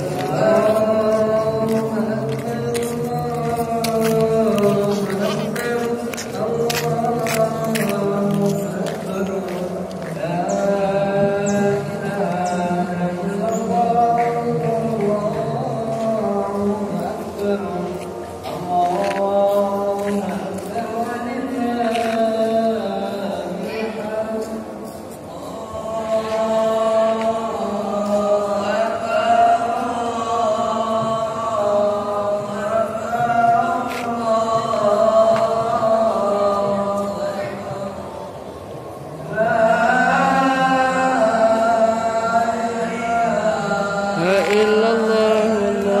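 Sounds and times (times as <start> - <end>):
voices singing a chant: 0.0 - 46.0.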